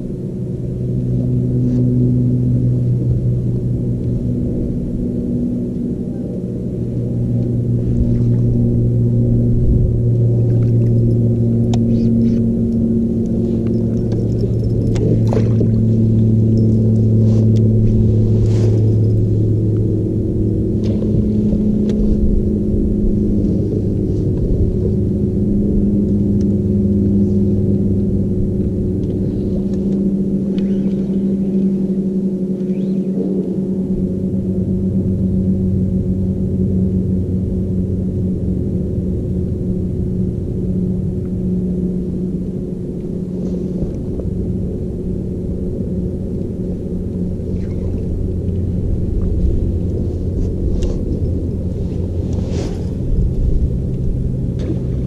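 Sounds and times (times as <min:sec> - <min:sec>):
electric trolling motor humming: 0:00.0 - 0:55.0.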